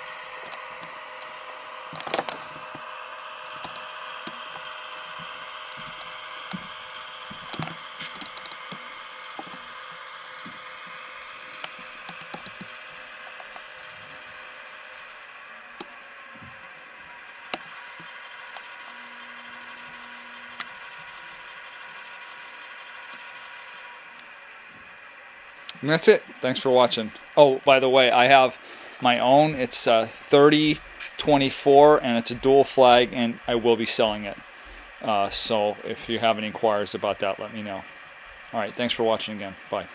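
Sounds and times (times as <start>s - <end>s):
model locomotive engine drone: 0.0s - 39.9s.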